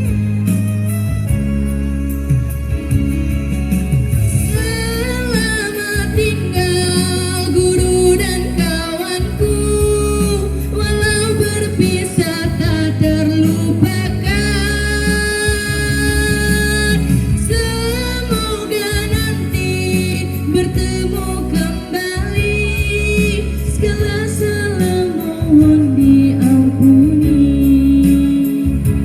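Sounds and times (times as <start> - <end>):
instrumental backing with bass: 0.0 - 29.0
person singing slow melody: 4.3 - 29.0.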